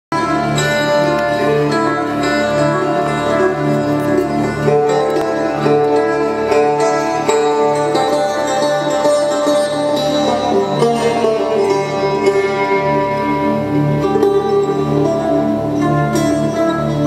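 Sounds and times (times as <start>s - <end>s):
long-necked string instrument melody: 0.1s - 17.0s.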